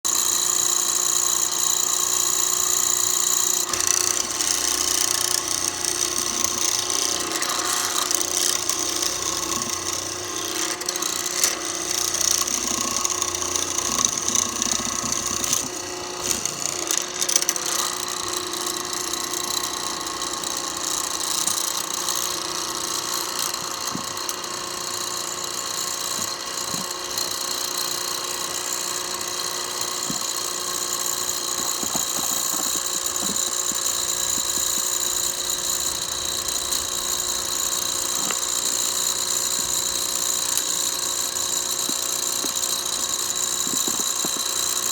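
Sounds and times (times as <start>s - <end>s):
mortising machine motor cutting wood: 0.1s - 44.9s.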